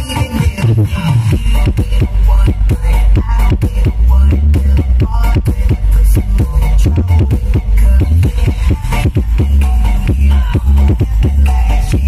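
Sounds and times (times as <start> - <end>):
electronic dance music with heavy bass: 0.0 - 12.0.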